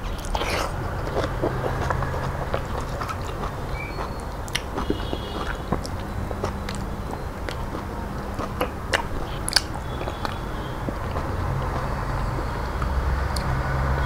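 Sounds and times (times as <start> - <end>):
fingers squishing food on plate: 0.0 - 13.6
close chewing with wet mouth clicks: 0.0 - 13.7
steady low hum: 0.0 - 14.0.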